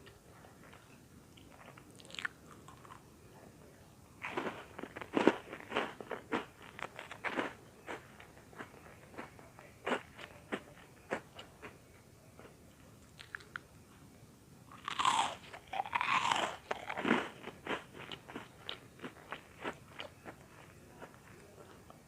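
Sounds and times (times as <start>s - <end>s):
crunching and chewing bread: 0.0s - 3.1s, 4.2s - 13.7s, 14.7s - 22.0s.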